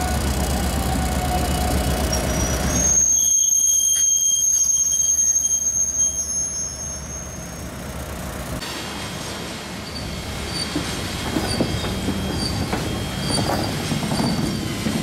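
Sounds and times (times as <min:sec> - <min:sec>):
steel wheel squeal: 0:00.0 - 0:07.8, 0:09.8 - 0:15.0
trains rumbling on rails: 0:00.0 - 0:15.0.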